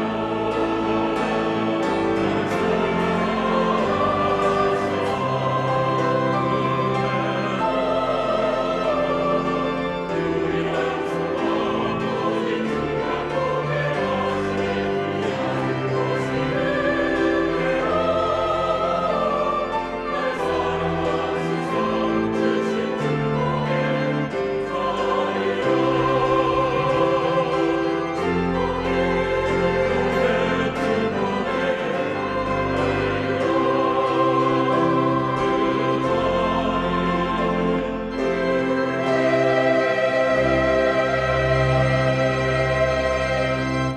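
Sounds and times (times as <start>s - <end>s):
church choir singing in harmony: 0.0s - 43.9s
piano: 0.0s - 43.9s
pipe organ: 0.0s - 43.9s.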